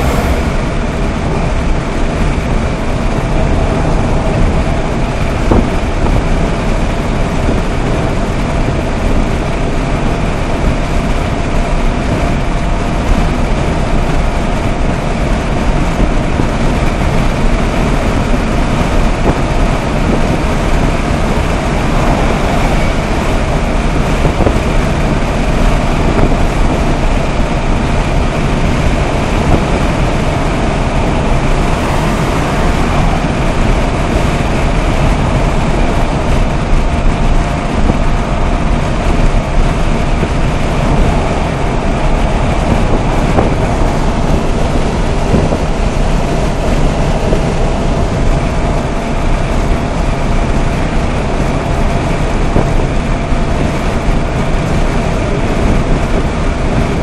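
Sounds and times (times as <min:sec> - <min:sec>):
car engine cruising: 0:00.0 - 0:57.0
road and wind noise: 0:00.0 - 0:57.0.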